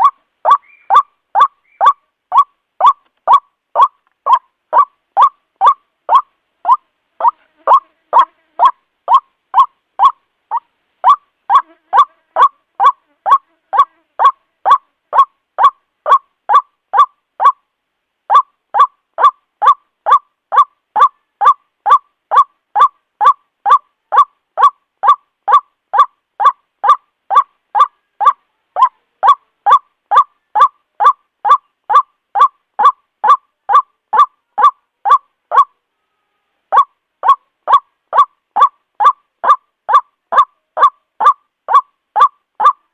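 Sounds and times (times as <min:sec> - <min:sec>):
waterhen calling: 0:00.0 - 0:17.6, 0:18.3 - 0:35.7, 0:36.7 - 0:42.9.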